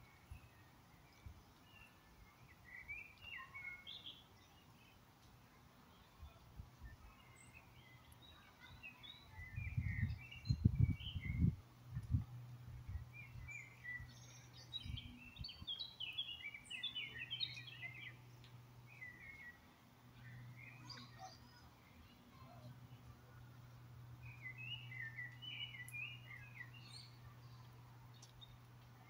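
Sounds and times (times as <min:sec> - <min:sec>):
small birds chirping and singing: 0:00.0 - 0:29.0
faint low hum: 0:04.1 - 0:29.0.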